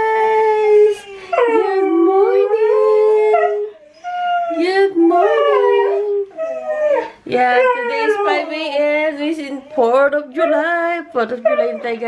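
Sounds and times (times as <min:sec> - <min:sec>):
dog howling: 0:00.0 - 0:10.8.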